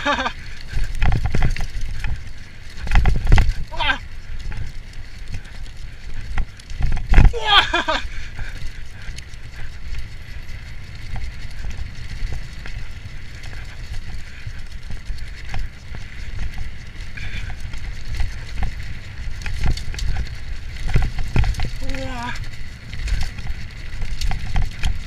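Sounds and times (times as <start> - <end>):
bike rattling and clicking: 0.0 - 25.0
wind buffeting microphone: 0.0 - 25.0.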